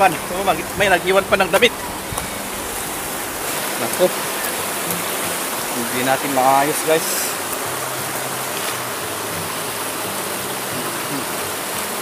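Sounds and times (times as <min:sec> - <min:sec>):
river water rushing over stones: 0:00.0 - 0:12.0.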